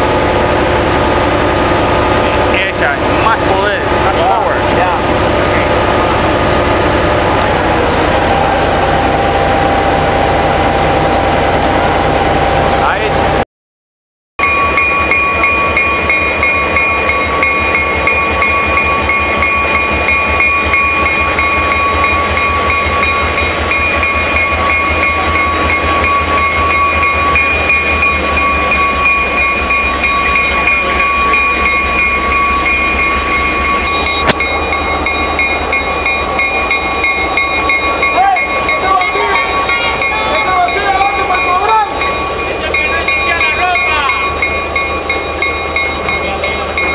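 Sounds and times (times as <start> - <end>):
diesel locomotive engine running: 0.0 - 13.4, 14.4 - 46.9.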